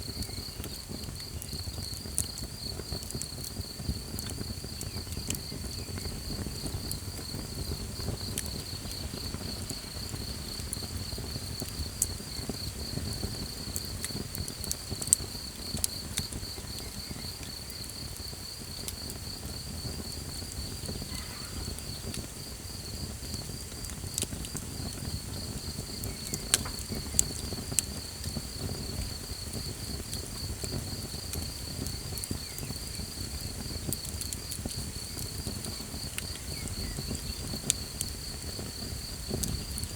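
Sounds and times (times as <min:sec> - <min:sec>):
campfire rumbling and crackling: 0:00.0 - 0:39.9
crickets chirping: 0:00.0 - 0:39.9.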